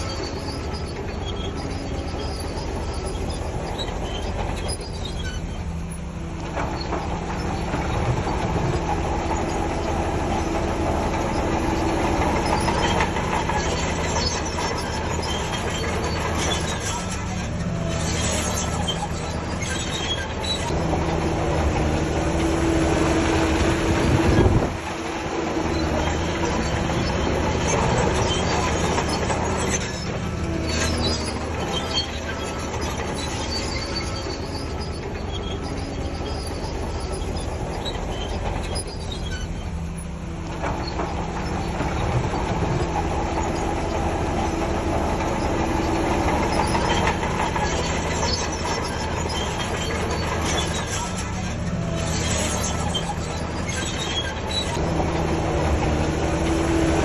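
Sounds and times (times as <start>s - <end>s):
diesel earthmoving machinery working: 0.0s - 57.0s.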